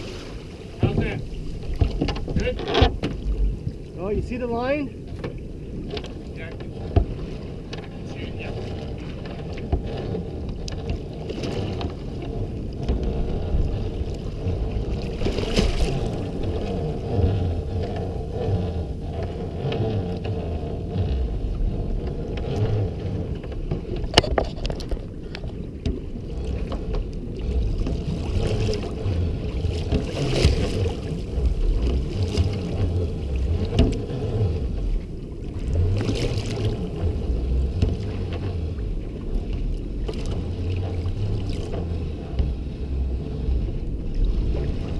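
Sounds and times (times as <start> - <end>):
outboard motor running: 0.0 - 44.9.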